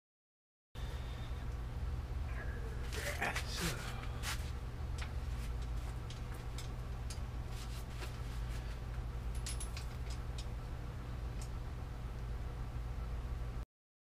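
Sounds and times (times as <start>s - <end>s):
steady low hum: 0.8s - 13.6s.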